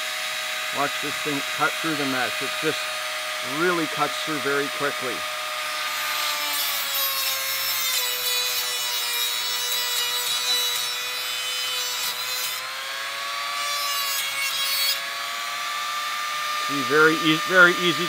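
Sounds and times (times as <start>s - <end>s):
rotary tool motor whining: 0.0s - 18.0s.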